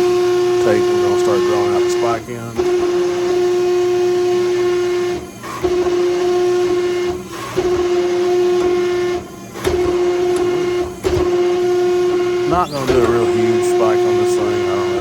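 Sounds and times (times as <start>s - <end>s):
hydraulic press whine: 0.0s - 15.0s.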